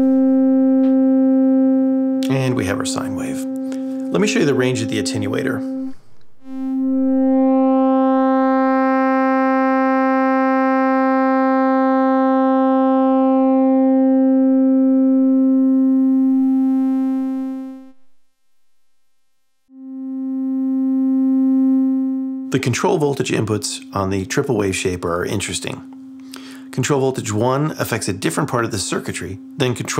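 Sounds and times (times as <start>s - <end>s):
buzzy synthesizer tone: 0.0s - 25.8s.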